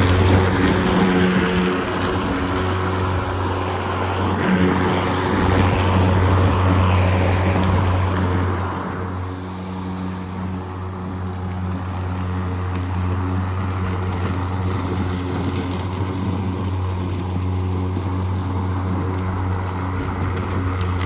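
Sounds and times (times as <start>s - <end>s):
lawn mower motor humming: 0.0s - 21.0s.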